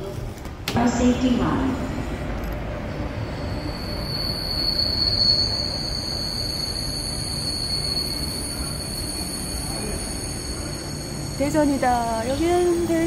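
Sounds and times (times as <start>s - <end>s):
train whine: 0.7s - 13.0s.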